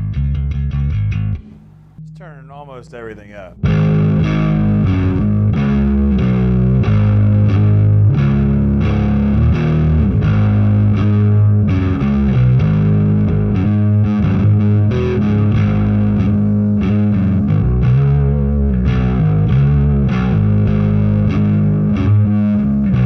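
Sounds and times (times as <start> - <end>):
distorted electric bass riff: 0.0 - 23.0.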